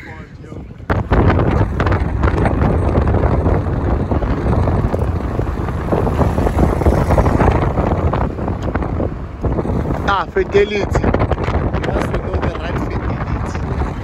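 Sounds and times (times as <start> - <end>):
car road noise: 0.0 - 14.0
wind on microphone: 0.0 - 14.0.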